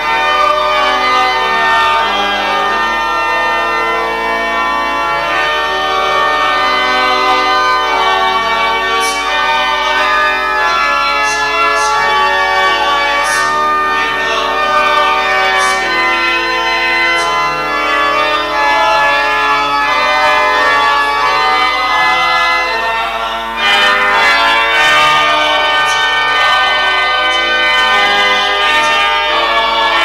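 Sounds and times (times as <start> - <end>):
church organ chords: 0.0 - 30.0.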